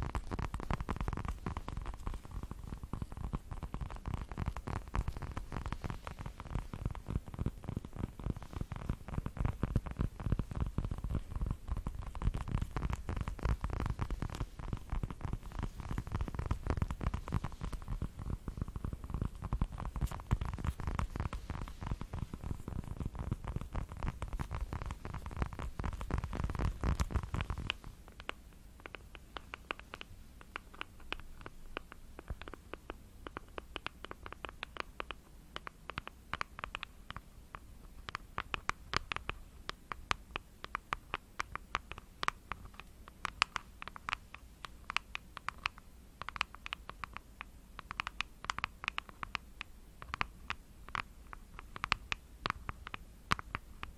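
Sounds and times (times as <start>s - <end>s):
nails tapping and scratching ball: 0.0s - 53.9s.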